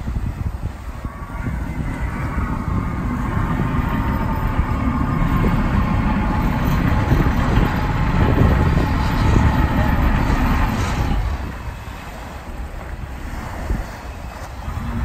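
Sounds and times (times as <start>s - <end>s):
diesel boat engine rumbling: 0.0s - 15.0s.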